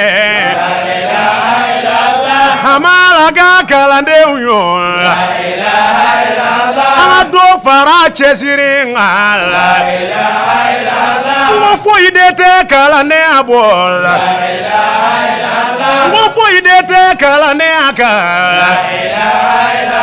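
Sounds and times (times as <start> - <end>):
men chanting unaccompanied: 0.0 - 20.0.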